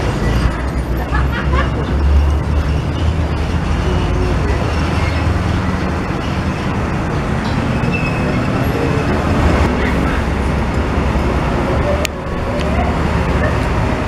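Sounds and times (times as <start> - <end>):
diesel truck engine droning: 0.0 - 14.0
road traffic noise: 0.0 - 14.0.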